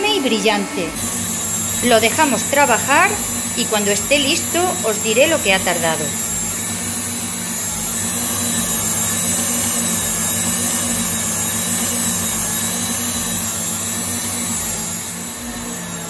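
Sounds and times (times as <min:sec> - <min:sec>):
stand mixer whisking: 0:00.0 - 0:16.0.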